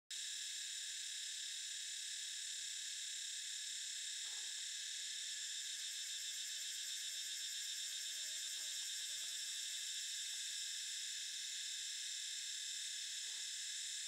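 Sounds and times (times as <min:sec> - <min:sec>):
high-pitched insect chorus: 0:00.2 - 0:14.0.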